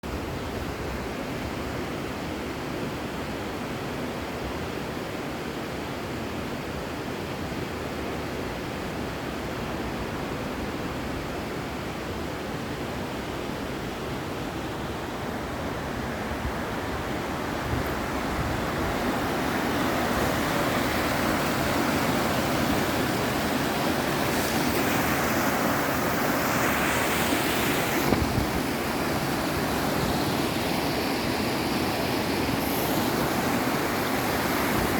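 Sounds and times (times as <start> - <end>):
flowing water rushing: 0.1 - 34.9.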